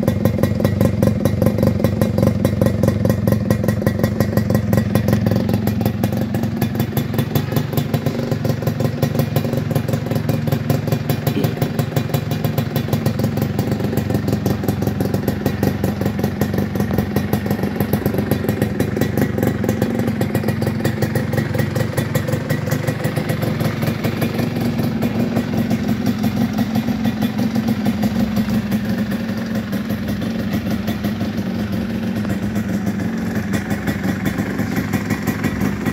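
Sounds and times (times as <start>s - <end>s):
two-stroke engine popping exhaust: 0.0s - 35.9s.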